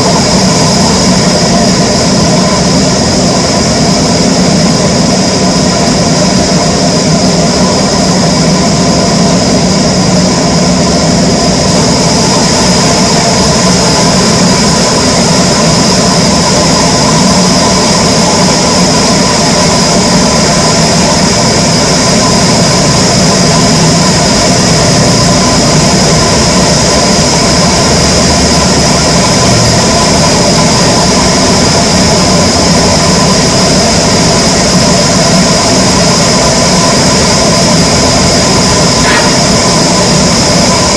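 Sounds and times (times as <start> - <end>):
heavy machinery humming and whining: 0.0 - 40.9.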